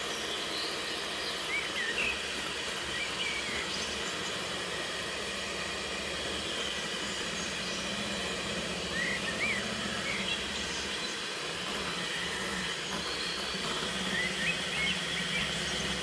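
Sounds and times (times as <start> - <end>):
electric hand mixer running: 0.0 - 16.0.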